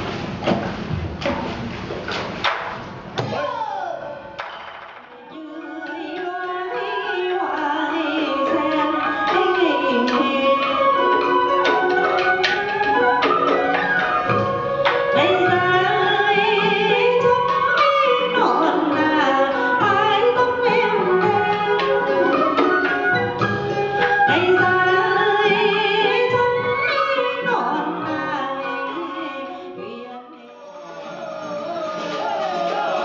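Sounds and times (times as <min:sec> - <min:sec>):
accompanying instruments: 0:02.8 - 0:33.0
woman singing with vibrato: 0:05.2 - 0:33.0.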